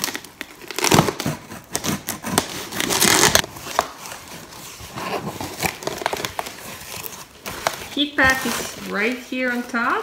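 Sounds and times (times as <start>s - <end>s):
packing tape pulled off: 0.0s - 9.1s
cardboard flaps rustling: 0.8s - 9.9s.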